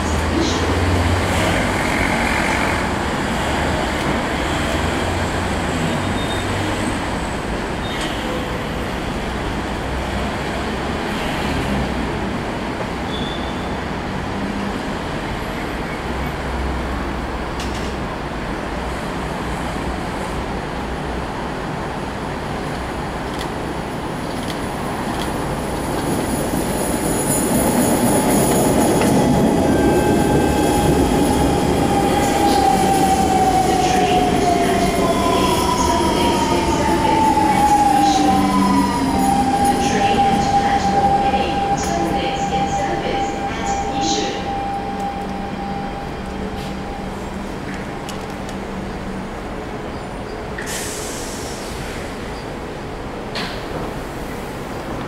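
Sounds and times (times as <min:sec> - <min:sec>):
train wheel and rail rumble: 0:00.0 - 0:55.0.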